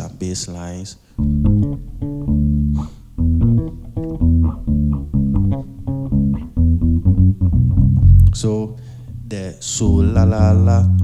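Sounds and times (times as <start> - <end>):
electric bass guitar: 1.2 - 11.0.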